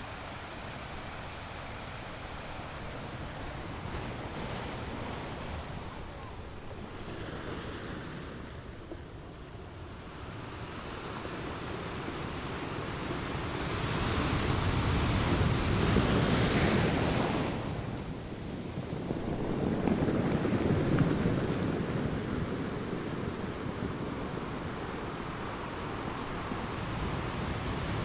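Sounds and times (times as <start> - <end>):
surf breaking on a beach: 0.0 - 28.0
wind on the microphone: 0.8 - 28.0.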